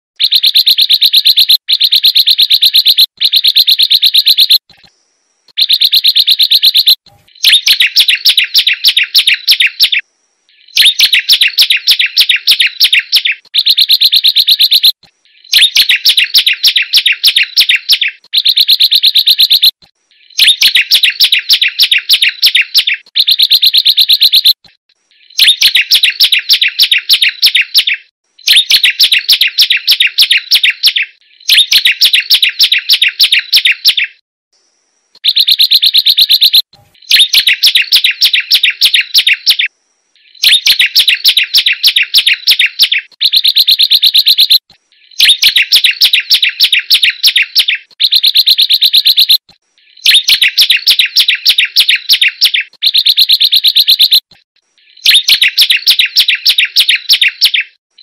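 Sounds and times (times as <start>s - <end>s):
bird singing shrill repeated notes: 0.2s - 34.2s, 35.2s - 58.0s.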